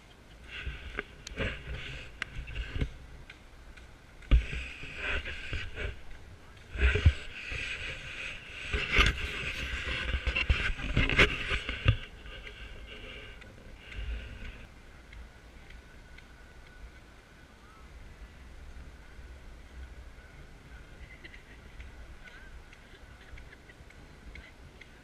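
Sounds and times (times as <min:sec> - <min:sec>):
outdoor hubbub of walkers: 0:00.0 - 0:25.0.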